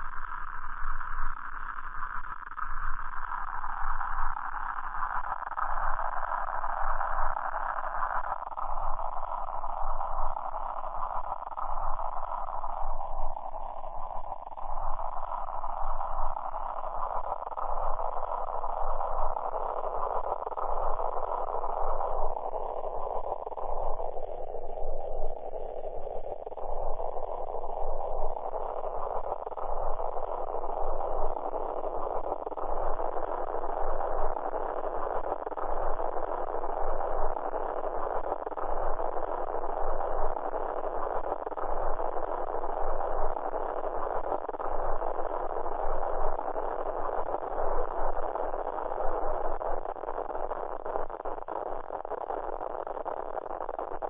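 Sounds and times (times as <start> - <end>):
muffled static hiss: 0.0 - 54.0.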